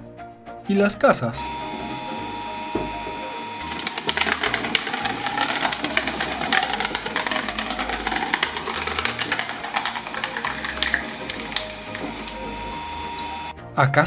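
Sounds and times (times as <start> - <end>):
shredder crunching cardboard: 1.4 - 13.5.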